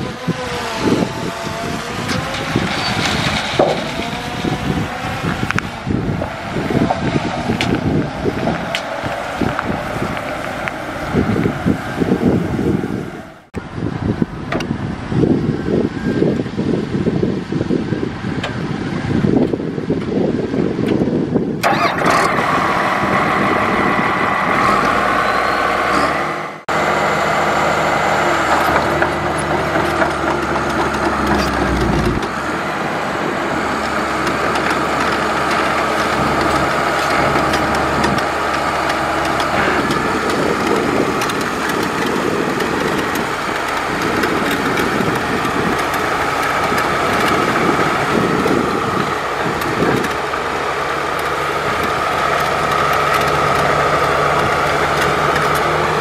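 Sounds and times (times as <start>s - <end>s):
heavy diesel engine running: 0.0s - 13.5s, 21.3s - 56.0s.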